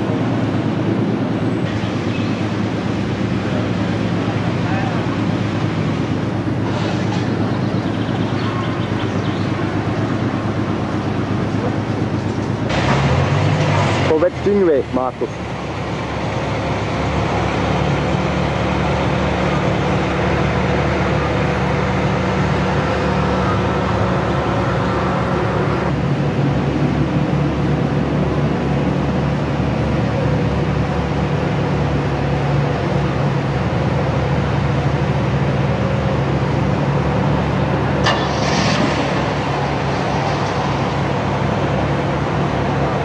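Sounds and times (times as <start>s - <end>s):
car engine idling: 0.0s - 13.2s, 14.0s - 43.0s.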